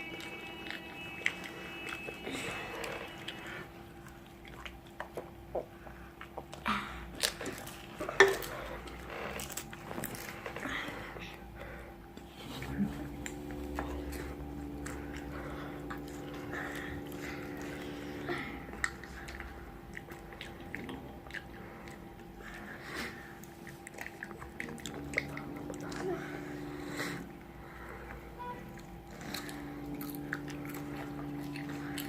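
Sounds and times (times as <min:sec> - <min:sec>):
chewing crispy fried food: 0:00.0 - 0:32.0.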